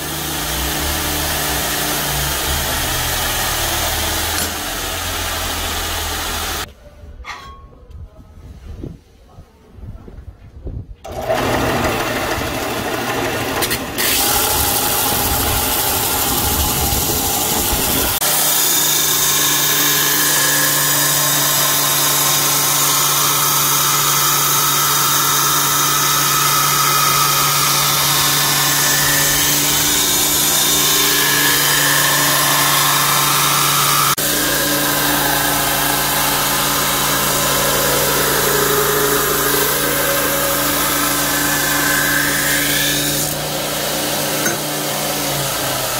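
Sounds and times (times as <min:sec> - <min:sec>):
belt grinder motor hum: 0:00.0 - 0:06.7, 0:11.1 - 0:45.9.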